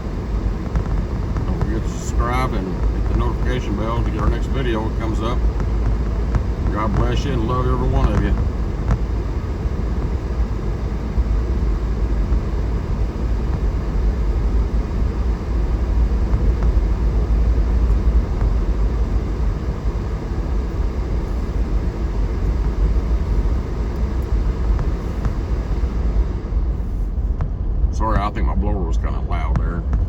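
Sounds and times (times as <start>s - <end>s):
heater blower fan running: 0.0s - 30.0s.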